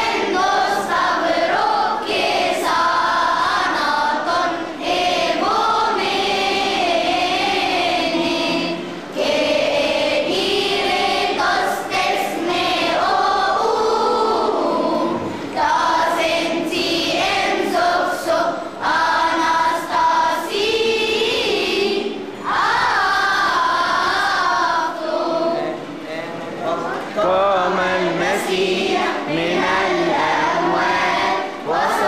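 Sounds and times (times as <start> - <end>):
children's choir singing a hymn: 0.0 - 32.0.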